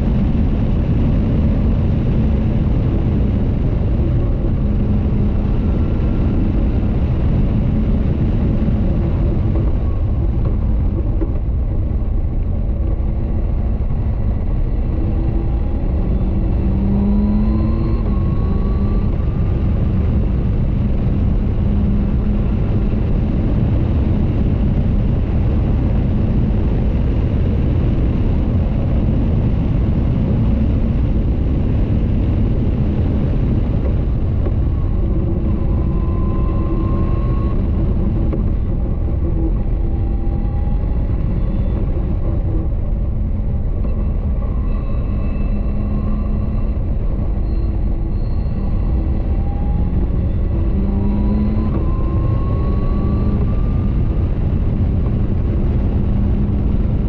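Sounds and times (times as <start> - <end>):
car engine running at speed: 0.0 - 57.0
heavy wind noise: 0.0 - 57.0.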